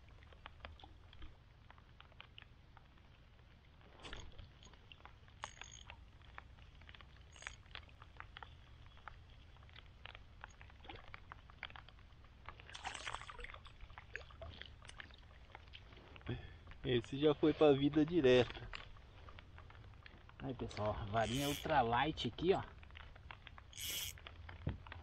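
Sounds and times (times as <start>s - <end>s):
water splashing and trickling: 0.0s - 25.0s.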